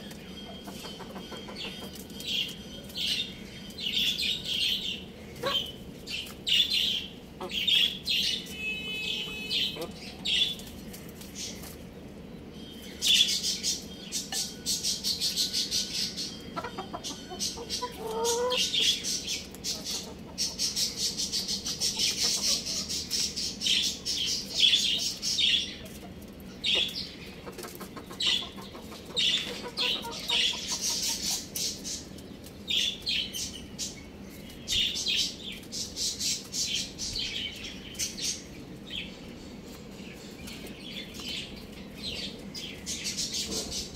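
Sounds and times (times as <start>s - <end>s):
chicks peeping and chirping: 0.0s - 43.9s.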